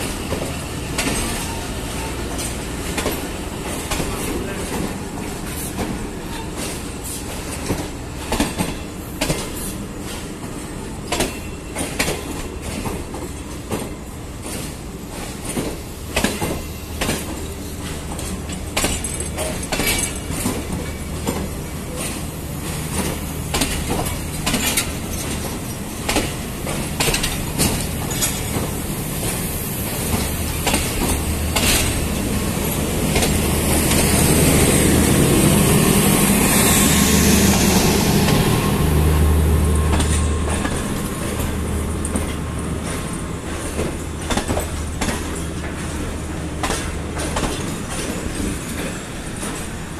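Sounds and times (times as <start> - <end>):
train wheels clicking over rail joints: 0.0 - 49.9.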